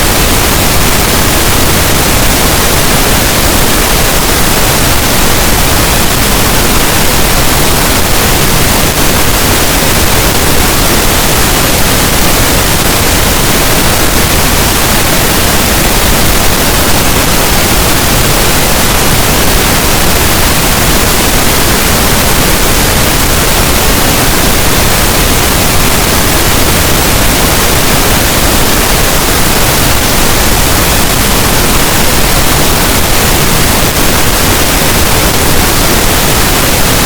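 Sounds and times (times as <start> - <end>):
pink noise hiss: 0.0 - 37.0.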